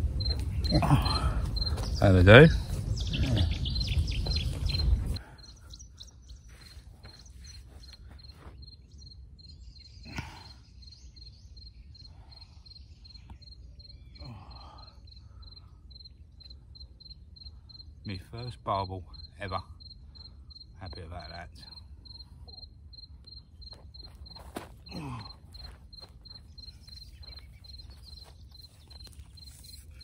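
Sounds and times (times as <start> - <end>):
cricket chirping: 0.0 - 30.0.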